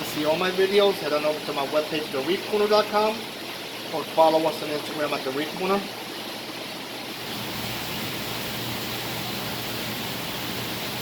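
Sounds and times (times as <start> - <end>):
aquarium water rushing: 0.0 - 11.0.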